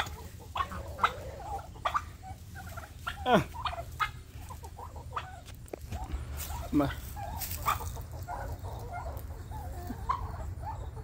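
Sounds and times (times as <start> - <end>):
turkeys calling: 0.0 - 11.0.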